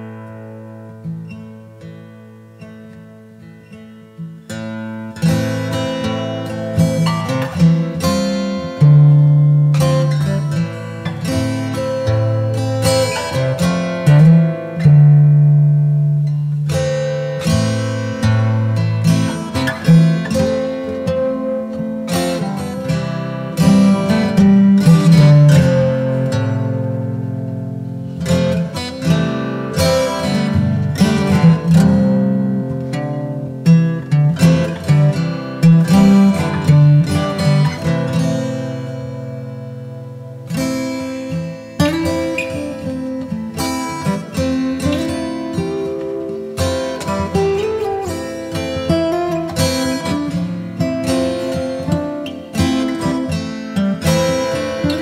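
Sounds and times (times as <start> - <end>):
acoustic guitar music: 0.0 - 55.0.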